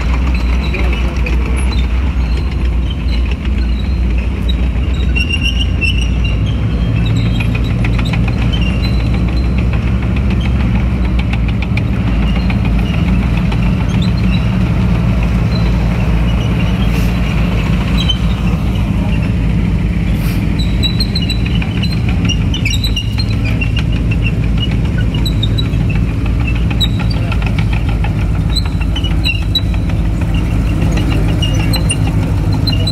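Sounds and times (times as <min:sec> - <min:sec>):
steel tracks squeaking and clinking: 0:00.0 - 0:32.9
tank engines running: 0:00.0 - 0:32.9.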